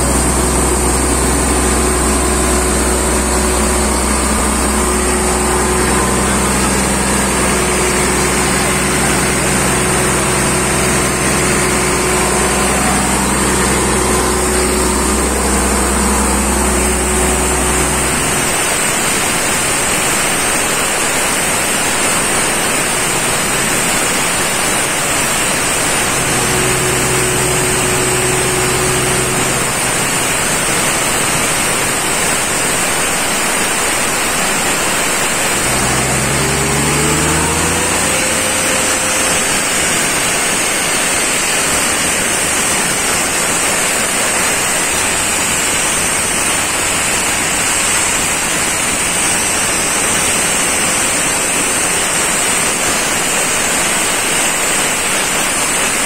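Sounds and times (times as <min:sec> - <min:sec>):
diesel engine running: 0:00.0 - 0:56.0
hissing machine noise: 0:00.0 - 0:56.0.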